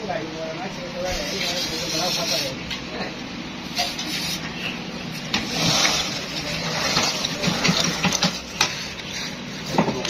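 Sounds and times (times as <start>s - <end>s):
hissy background noise: 0.0s - 10.0s.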